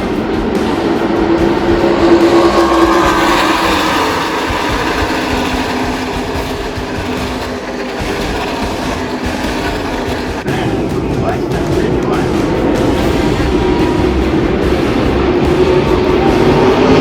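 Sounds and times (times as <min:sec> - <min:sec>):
race truck engines passing: 0:00.0 - 0:17.0.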